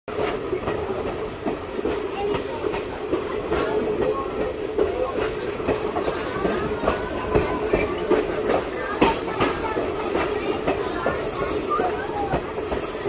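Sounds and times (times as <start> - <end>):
steam train rumbling with rhythmic beats: 0.1 - 13.0.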